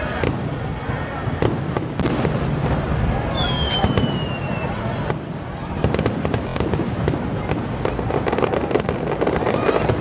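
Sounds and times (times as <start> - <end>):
fireworks popping and crackling: 0.0 - 10.0.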